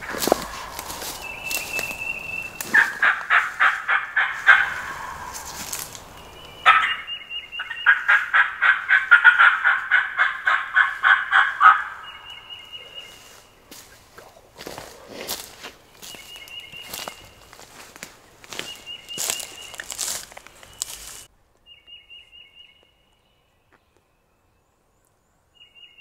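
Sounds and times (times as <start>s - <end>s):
turkey calling raspy notes: 0.0s - 21.3s.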